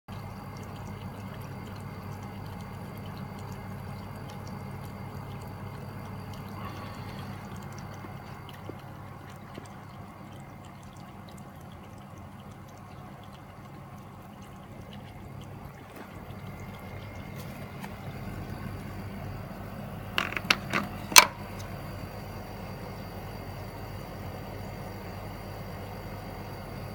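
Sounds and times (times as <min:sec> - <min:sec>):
water pouring: 0:00.1 - 0:25.9
low running machine noise: 0:00.1 - 0:26.9.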